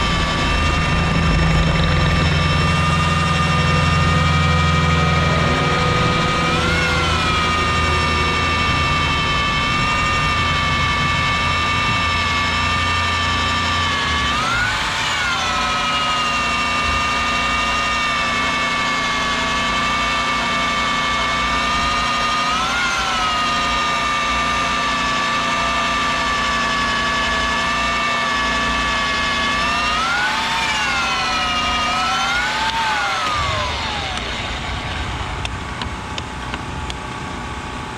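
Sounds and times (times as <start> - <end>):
core drill motor whine: 0.0 - 37.9.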